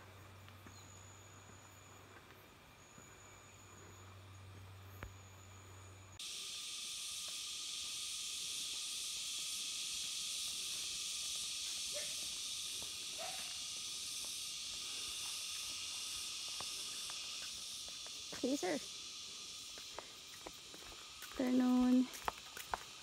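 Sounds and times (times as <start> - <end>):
high-pitched outdoor hiss: 0.0 - 23.0.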